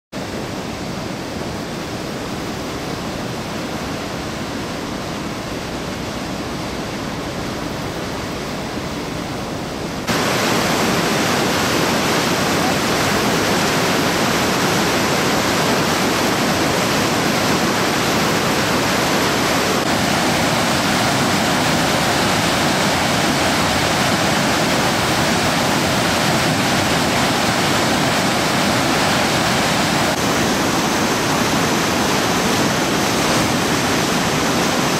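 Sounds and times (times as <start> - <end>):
floodwater rushing: 0.2 - 34.9.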